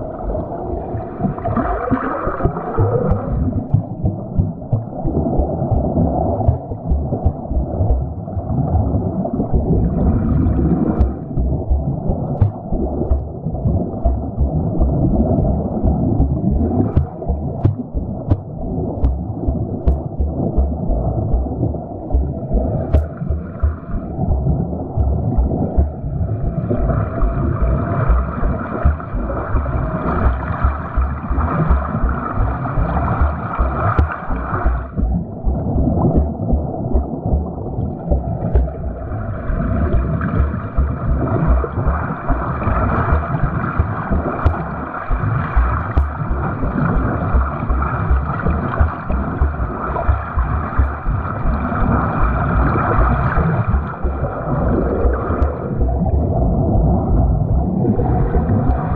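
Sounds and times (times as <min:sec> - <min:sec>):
muffled churning water: 0:00.0 - 0:58.9
water splashing and bubbling: 0:00.0 - 0:58.9.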